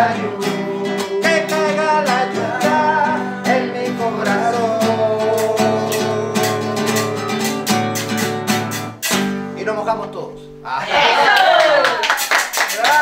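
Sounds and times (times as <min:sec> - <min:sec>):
acoustic guitar strumming: 0:00.0 - 0:10.6.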